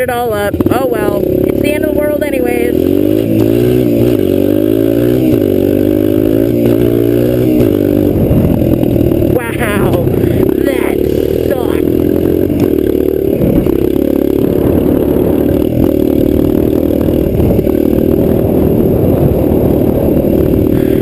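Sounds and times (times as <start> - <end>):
small vehicle engine running: 0.0 - 21.0.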